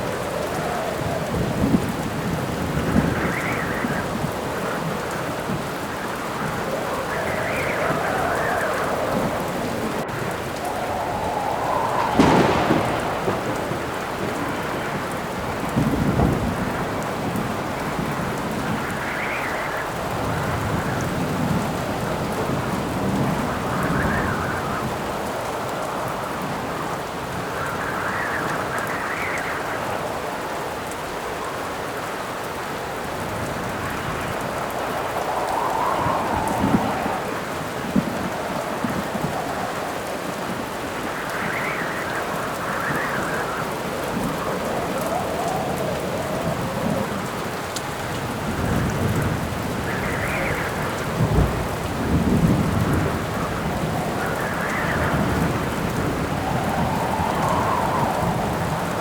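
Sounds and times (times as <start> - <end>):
thunderclap: 0.0 - 26.8, 33.2 - 59.0
low thunder rumble: 0.0 - 30.8, 33.0 - 59.0
heavy rain: 0.0 - 59.0
wind howling in gusts: 0.0 - 59.0.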